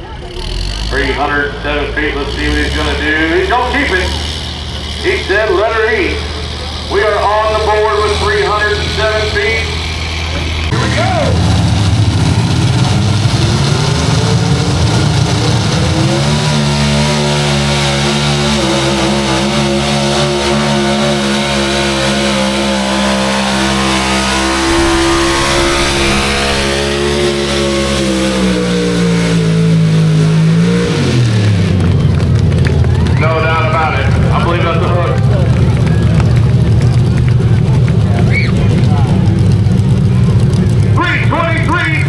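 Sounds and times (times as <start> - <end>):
truck engine at full throttle: 0.0 - 42.0.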